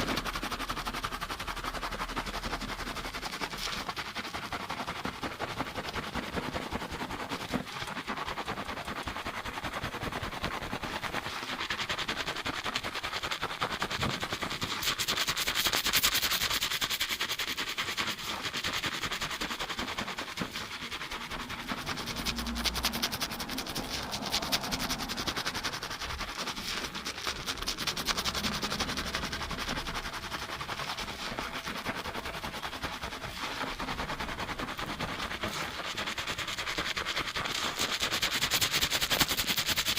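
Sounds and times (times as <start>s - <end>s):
shampoo scrubbing lathered hair: 0.0s - 39.9s.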